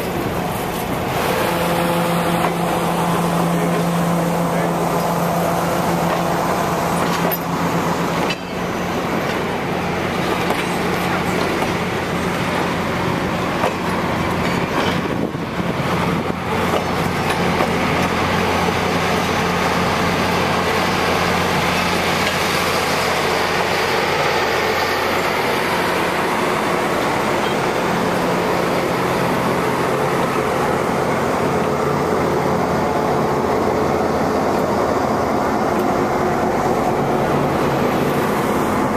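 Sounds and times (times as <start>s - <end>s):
diesel locomotive engine drone: 0.0s - 38.9s
train coaches rolling on rails: 0.0s - 38.9s.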